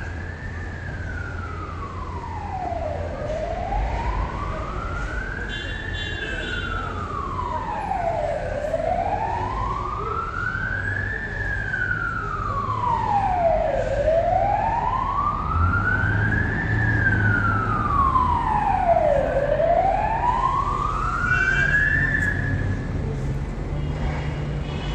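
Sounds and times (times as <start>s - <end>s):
emergency siren wailing: 0.0s - 23.8s.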